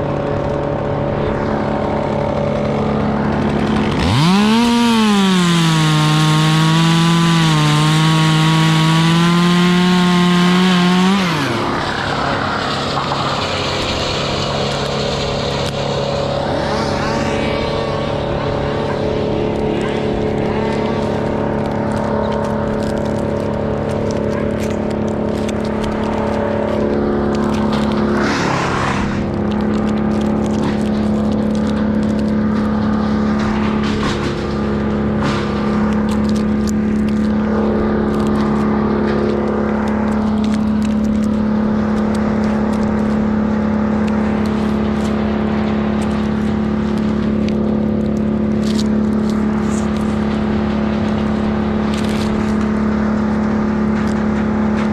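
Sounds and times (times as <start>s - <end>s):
engine running at high speed: 0.0s - 54.9s.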